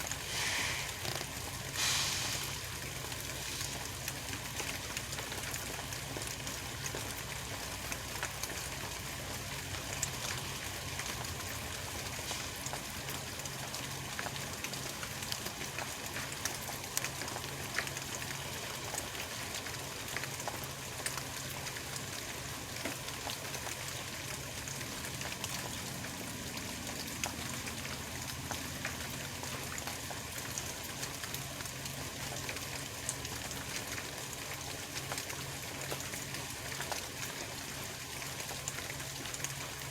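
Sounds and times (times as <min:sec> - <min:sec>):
steady hiss with light ticks: 0:00.0 - 0:39.9.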